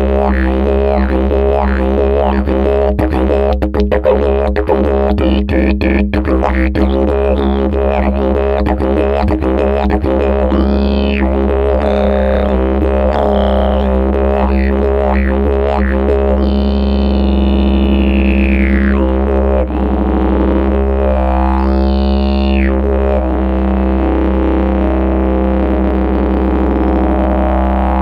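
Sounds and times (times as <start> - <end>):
didgeridoo drone: 0.0 - 28.0.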